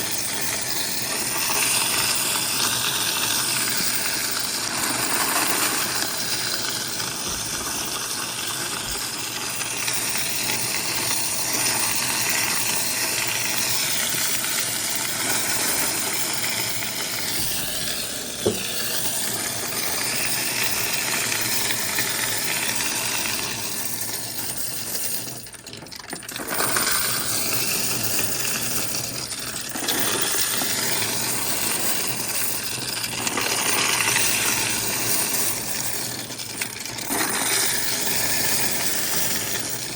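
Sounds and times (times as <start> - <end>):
coins clattering: 0.0 - 39.9.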